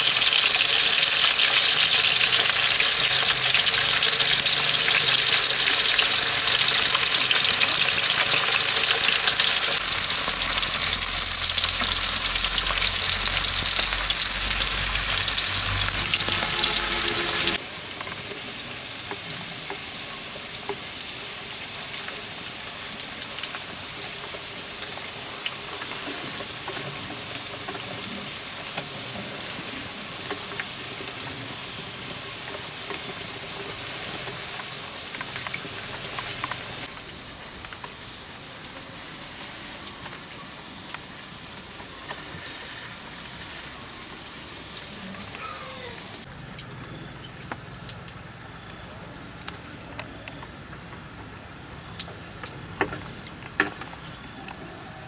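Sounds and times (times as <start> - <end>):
potato slices sizzling in oil: 0.0 - 46.3.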